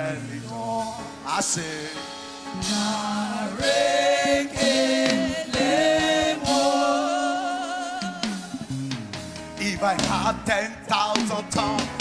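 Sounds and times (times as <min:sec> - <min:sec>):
gospel singing voices: 0:00.0 - 0:12.0.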